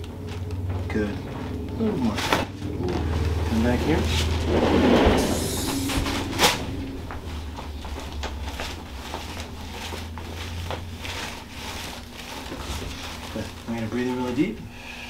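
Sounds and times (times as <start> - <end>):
rustling of body movement: 0.0 - 14.6
low steady hum: 0.0 - 15.0.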